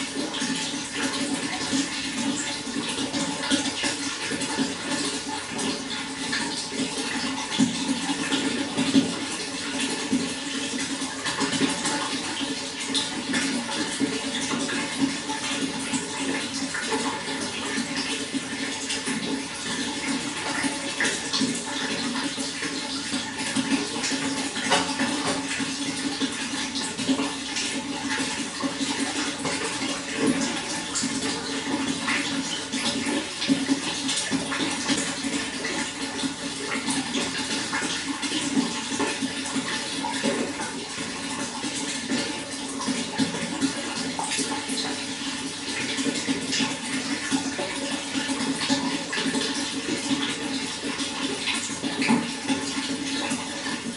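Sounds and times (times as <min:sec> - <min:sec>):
running water splashing: 0:00.0 - 0:53.9.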